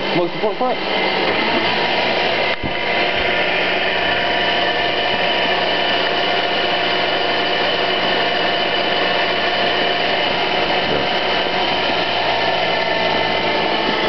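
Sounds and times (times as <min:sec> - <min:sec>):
steady whining tones: 0:00.0 - 0:14.0.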